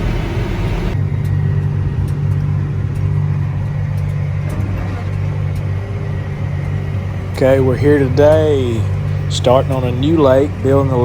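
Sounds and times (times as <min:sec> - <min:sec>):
tractor engine droning: 0:00.0 - 0:11.0
vehicle road rumble: 0:00.0 - 0:11.0.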